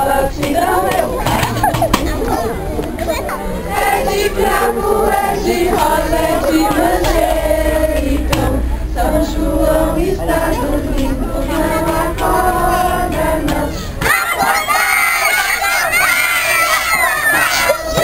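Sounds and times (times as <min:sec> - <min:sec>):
children shouting and cheering: 0:00.0 - 0:07.4, 0:10.2 - 0:18.0
children and adults singing: 0:00.0 - 0:18.0.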